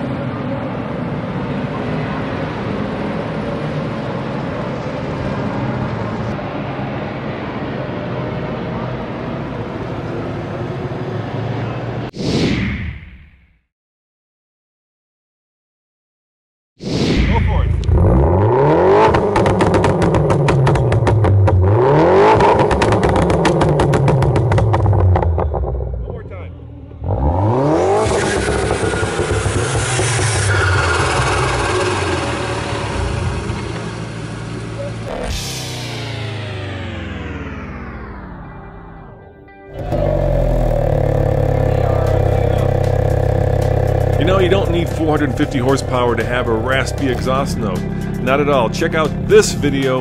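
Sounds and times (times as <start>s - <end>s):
car engine and exhaust running: 0.0s - 11.9s, 17.8s - 50.0s.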